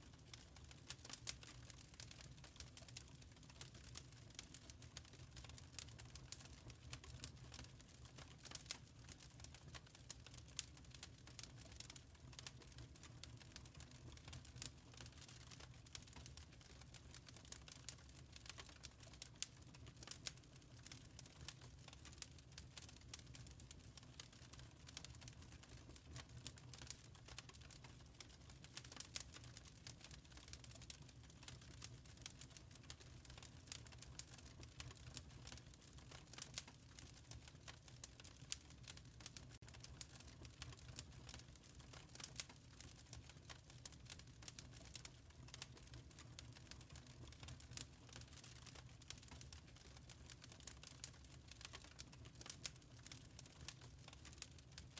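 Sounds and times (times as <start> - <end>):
faint wood fire crackling: 0.0 - 54.9.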